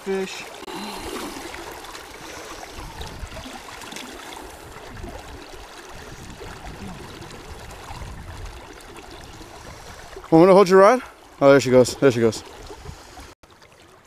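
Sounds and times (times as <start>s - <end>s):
shallow river rushing: 0.0s - 13.3s.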